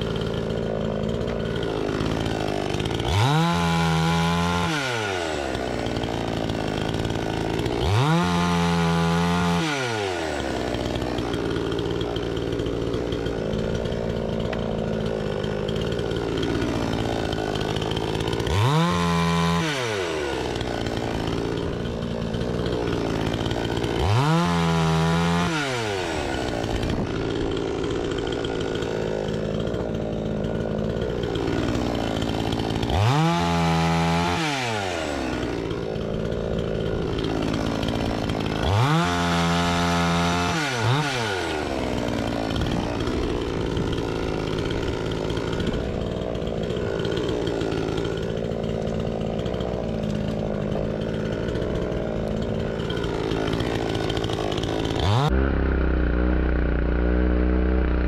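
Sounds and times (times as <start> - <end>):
chainsaw cutting logs: 0.0 - 58.0.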